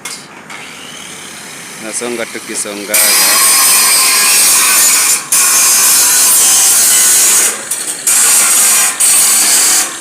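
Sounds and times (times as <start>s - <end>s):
power tool working metal: 0.5s - 10.0s.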